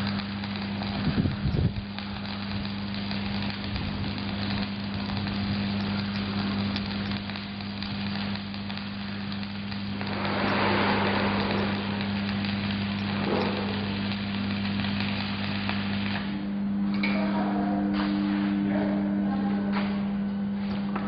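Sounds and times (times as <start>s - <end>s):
welding arc burning: 0.0s - 17.2s
low hum: 0.9s - 21.0s.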